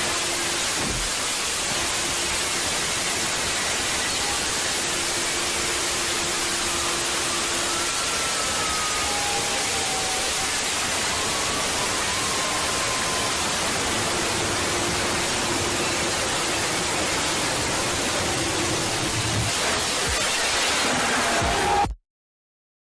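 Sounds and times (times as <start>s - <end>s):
static-like hiss: 0.0s - 21.8s.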